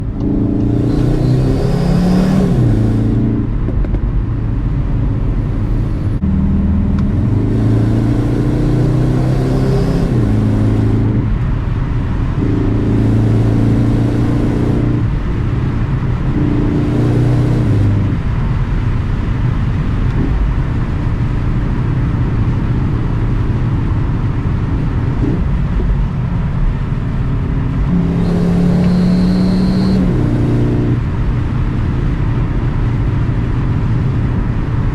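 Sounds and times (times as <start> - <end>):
tyre and wind noise: 0.0 - 29.2
car engine accelerating hard: 0.0 - 34.9.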